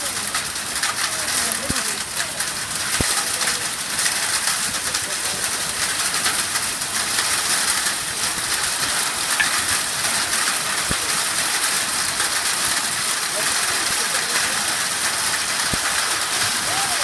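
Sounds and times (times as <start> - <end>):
heavy rain pelting: 0.0 - 17.0.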